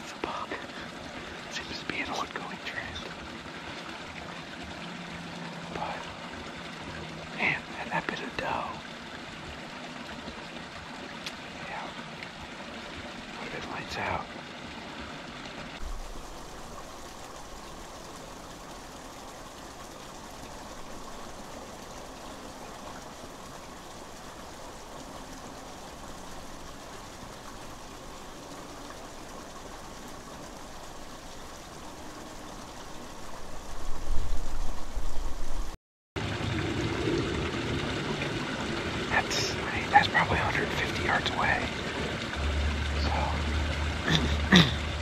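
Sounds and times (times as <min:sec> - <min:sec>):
rushing outdoor background noise: 0:00.0 - 0:45.0.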